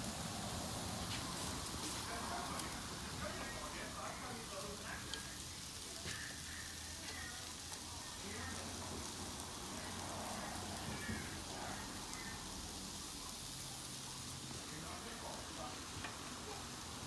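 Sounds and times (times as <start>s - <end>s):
faint voices: 0.0s - 17.0s
meat sizzling on a grill: 0.0s - 17.0s.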